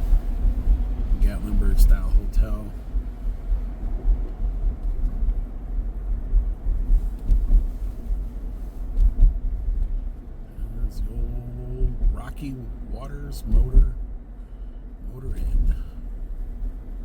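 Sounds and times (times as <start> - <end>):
car engine hum: 0.0 - 17.0
road and tyre noise: 0.0 - 17.0.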